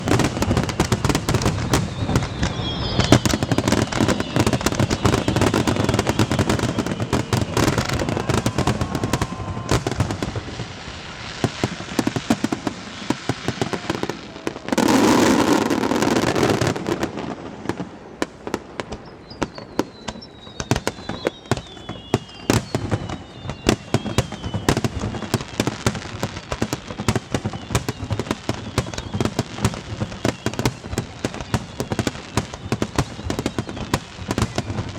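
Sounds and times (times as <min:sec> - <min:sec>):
falling firework whistle: 0:00.0 - 0:34.9
fireworks crackling and popping: 0:00.0 - 0:34.9.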